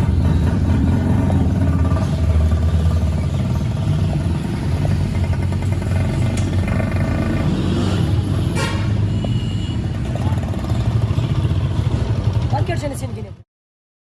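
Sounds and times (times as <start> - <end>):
truck engine rumbling: 0.0 - 13.4.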